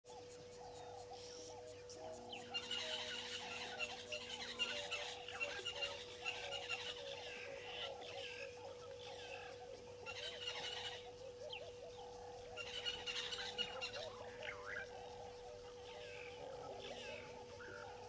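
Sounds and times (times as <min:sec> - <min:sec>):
birds chirping: 0:00.0 - 0:18.0
steady thin hum: 0:00.1 - 0:18.0.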